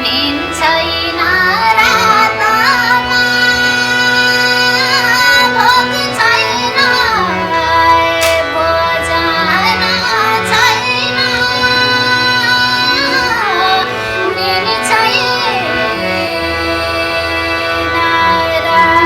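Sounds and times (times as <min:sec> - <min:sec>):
keyboard accompaniment: 0:00.0 - 0:19.0
woman singing: 0:00.0 - 0:19.0.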